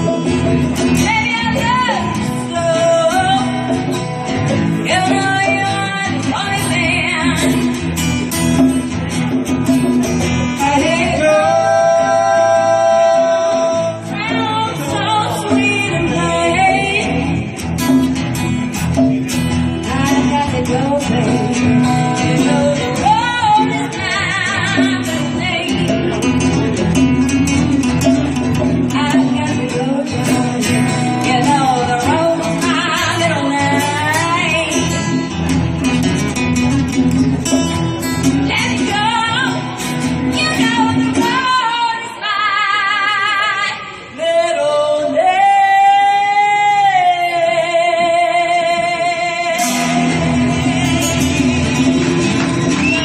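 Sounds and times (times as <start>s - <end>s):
person singing with vibrato: 0.0s - 8.4s, 10.4s - 26.4s, 28.4s - 35.5s, 38.0s - 52.8s
live band playing: 0.0s - 53.0s.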